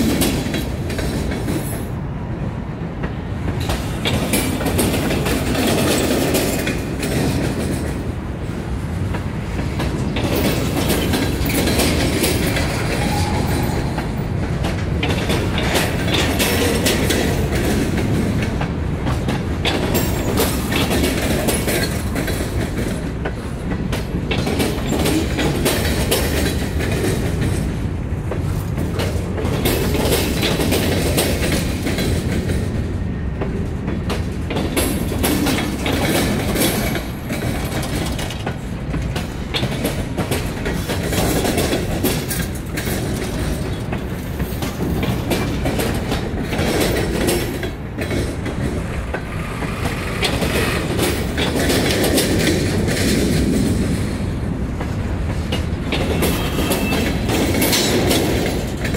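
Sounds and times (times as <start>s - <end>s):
freight train rumbling past: 0.0s - 58.9s
wheels clicking over rail joints: 3.0s - 8.2s, 9.1s - 58.9s.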